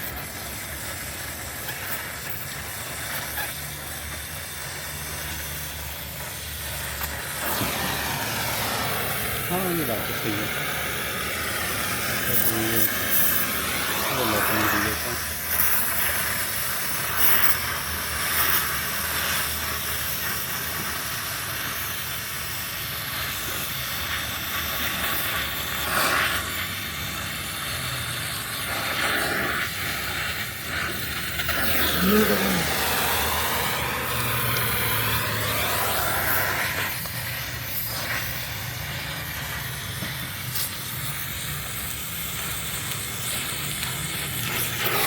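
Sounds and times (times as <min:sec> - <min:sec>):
welding hiss and crackles: 0:00.0 - 0:45.0.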